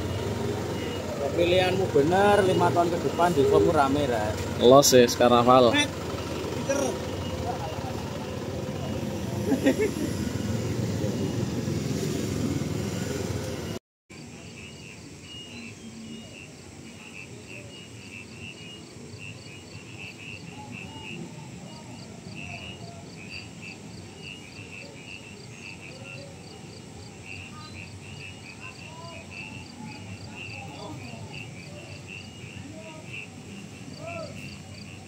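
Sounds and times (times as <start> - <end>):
insects chirping: 0.0 - 35.0
vehicle and voices din: 0.0 - 35.0.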